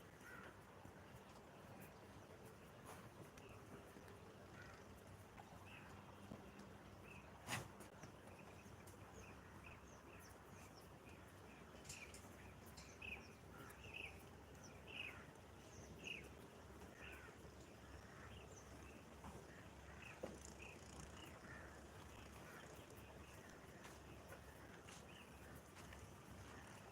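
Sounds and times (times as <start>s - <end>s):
low background hiss: 0.0s - 26.9s
small birds chirping faintly: 0.0s - 26.9s.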